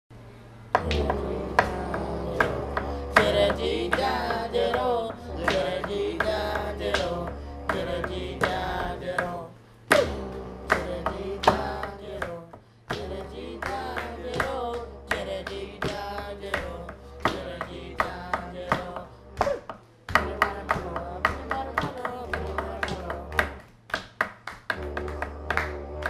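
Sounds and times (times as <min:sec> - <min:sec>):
low drone: 0:00.2 - 0:23.6, 0:24.8 - 0:26.0
voices singing: 0:00.5 - 0:23.7, 0:24.7 - 0:26.0
percussive strikes: 0:00.8 - 0:26.0.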